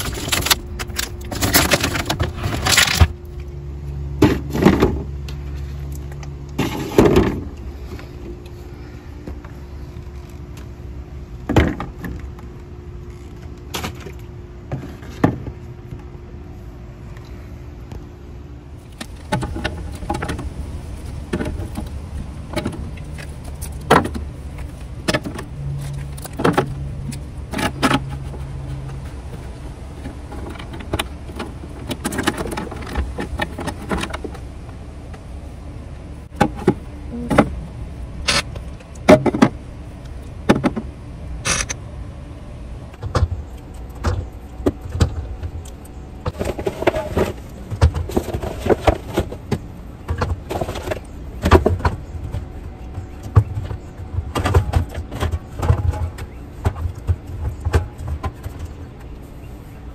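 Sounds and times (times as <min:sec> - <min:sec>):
construction machine engine rumble: 0:00.0 - 0:59.9.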